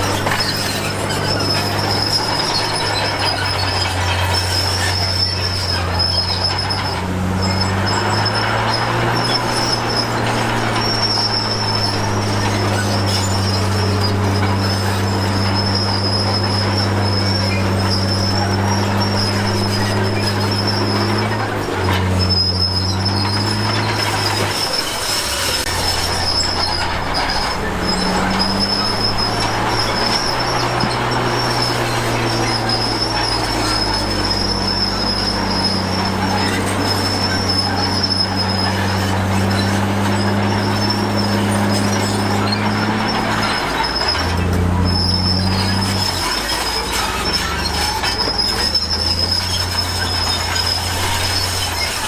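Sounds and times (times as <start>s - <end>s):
bulldozer diesel engine under load: 0.0s - 52.0s
steel tracks squealing: 0.0s - 52.0s.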